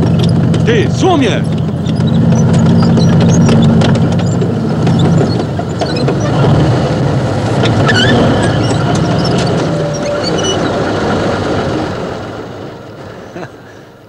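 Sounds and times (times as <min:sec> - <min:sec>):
tank tracks clanking: 0:00.0 - 0:11.5
tank engine running: 0:00.0 - 0:14.0.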